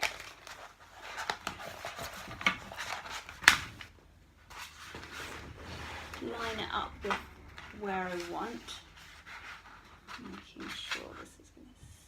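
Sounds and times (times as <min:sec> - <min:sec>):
contact paper rustling and crackling: 0:00.0 - 0:11.5.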